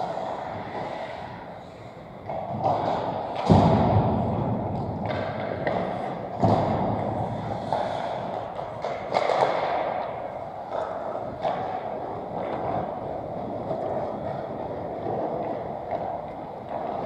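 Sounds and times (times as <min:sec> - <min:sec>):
hockey sticks knocking: 0:00.0 - 0:17.0
skate blades scraping ice: 0:00.0 - 0:17.0.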